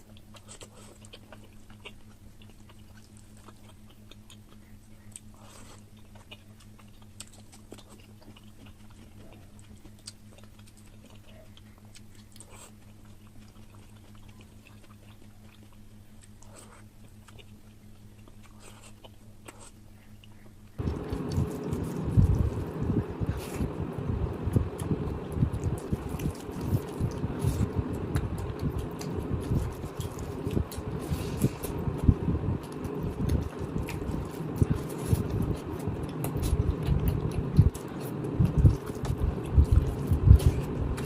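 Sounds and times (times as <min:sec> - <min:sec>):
low hum: 0:00.0 - 0:41.0
person chewing: 0:00.0 - 0:41.0.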